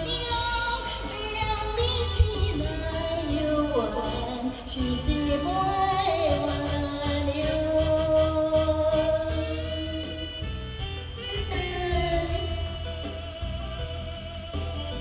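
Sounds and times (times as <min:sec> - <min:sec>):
pop song with singing: 0:00.0 - 0:15.0.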